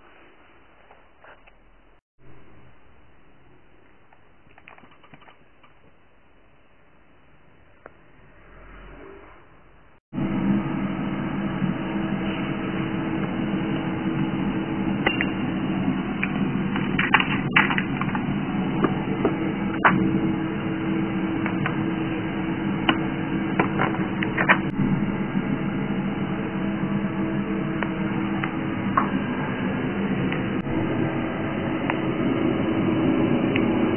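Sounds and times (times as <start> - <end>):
steady low hum: 5.3 - 33.9.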